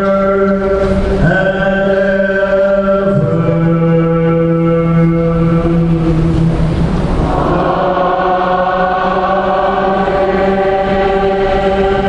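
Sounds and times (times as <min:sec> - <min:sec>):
chant in long held notes: 0:00.0 - 0:12.0.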